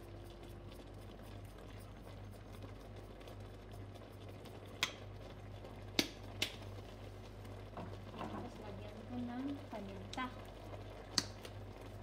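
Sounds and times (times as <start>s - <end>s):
faint hum: 0.0s - 12.0s
pot bubbling: 0.0s - 12.0s.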